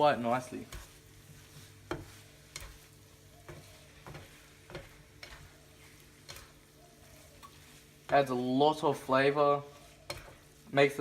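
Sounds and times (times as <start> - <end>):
faint sizzle: 0.0 - 11.0
utensil scraping a frying pan: 0.0 - 11.0.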